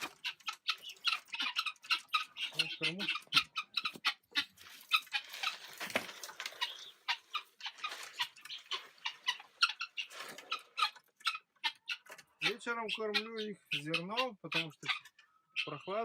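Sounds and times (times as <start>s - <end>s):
poultry making sharp sounds: 0.0s - 16.0s.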